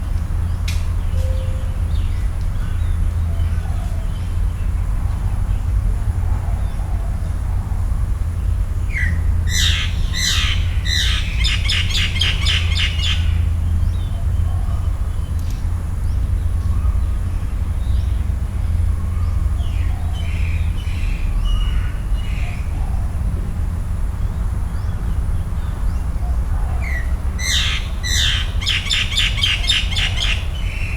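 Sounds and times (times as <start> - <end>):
steady low rumble: 0.0 - 30.9
wild birds calling: 0.0 - 30.9.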